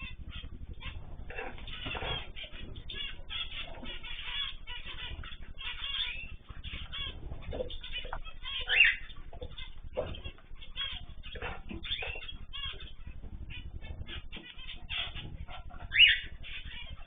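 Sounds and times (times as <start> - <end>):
flock of birds chirping: 0.0 - 17.0.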